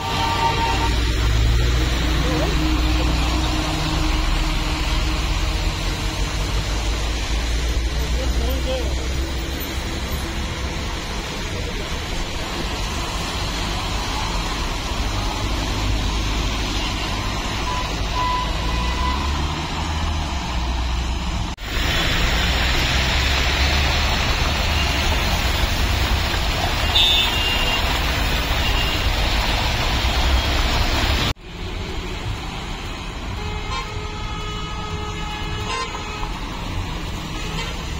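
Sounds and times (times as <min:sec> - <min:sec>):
tyres rolling through water: 0:00.0 - 0:33.8
traffic engines rumbling: 0:00.0 - 0:37.9.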